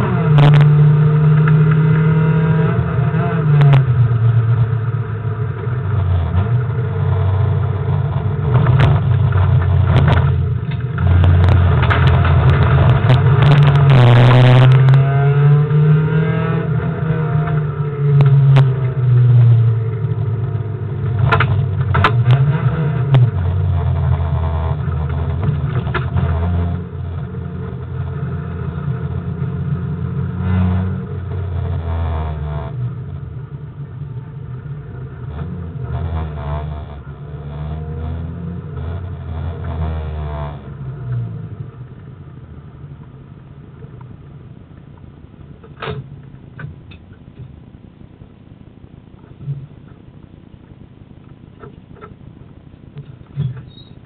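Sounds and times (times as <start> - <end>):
car engine accelerating: 0.0 - 45.8.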